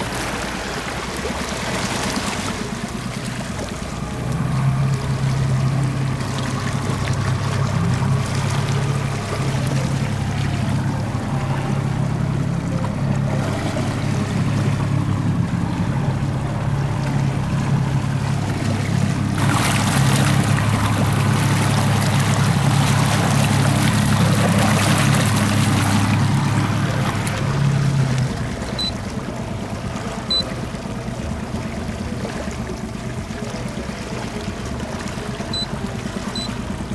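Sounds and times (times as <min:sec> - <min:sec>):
boat engine running: 0:00.0 - 0:36.9
water splashing along hull: 0:00.0 - 0:36.9.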